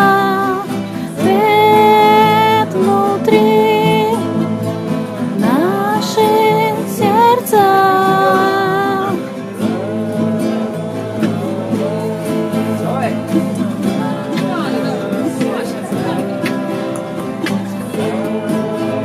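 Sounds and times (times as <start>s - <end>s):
live band with guitar: 0.0s - 19.0s
person singing long notes: 0.0s - 19.0s.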